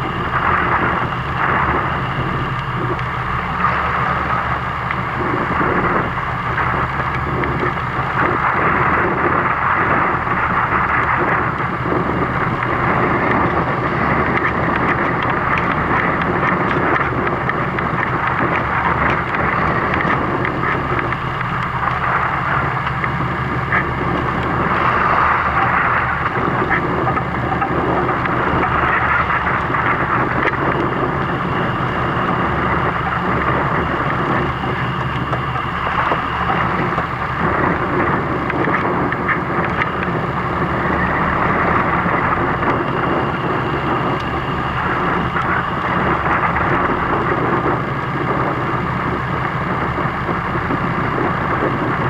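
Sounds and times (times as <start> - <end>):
boat engine running: 0.0 - 52.0
wind and water rushing: 0.0 - 52.0.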